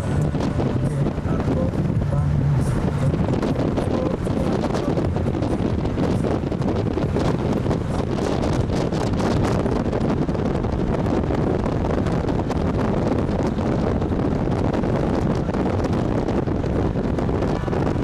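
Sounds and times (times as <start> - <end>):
vehicle road and engine noise: 0.0 - 18.0
wind buffeting microphone: 0.0 - 18.0.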